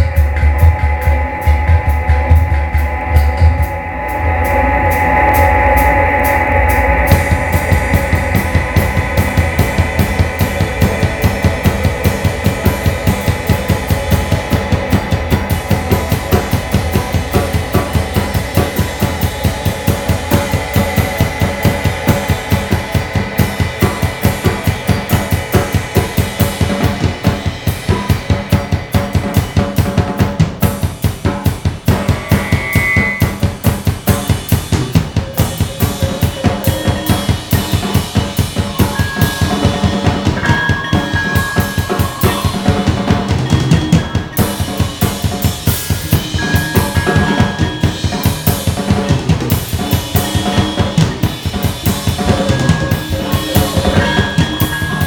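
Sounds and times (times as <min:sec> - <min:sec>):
cymbal wash: 0:00.0 - 0:55.0
fast drum kit playing: 0:00.0 - 0:55.0
steady held tones: 0:00.0 - 0:55.0.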